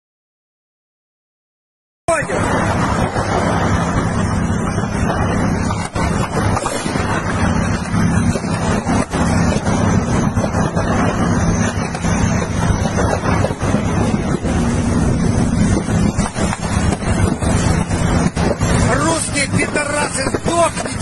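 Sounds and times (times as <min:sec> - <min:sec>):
wind buffeting microphone: 0:02.1 - 0:21.0
tracked vehicle engines running: 0:02.2 - 0:21.0.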